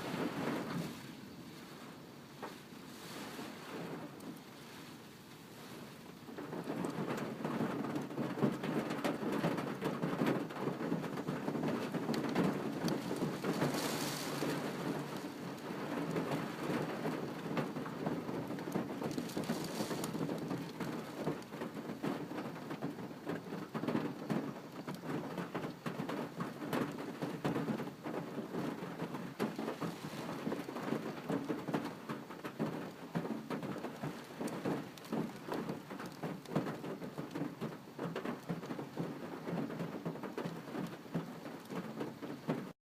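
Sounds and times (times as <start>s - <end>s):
rain pattering: 0.0s - 42.8s.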